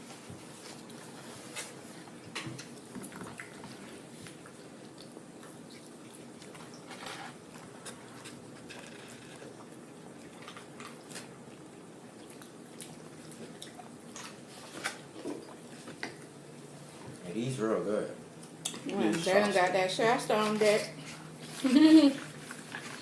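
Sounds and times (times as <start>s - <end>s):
people chewing and eating: 0.0s - 17.6s, 20.4s - 23.0s.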